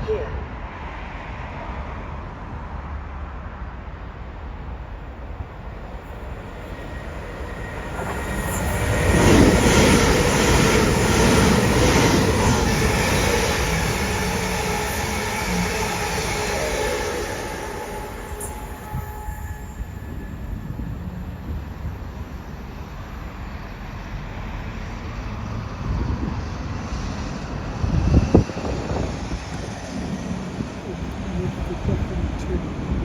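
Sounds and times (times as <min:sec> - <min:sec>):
train passing through station: 0:00.0 - 0:33.0.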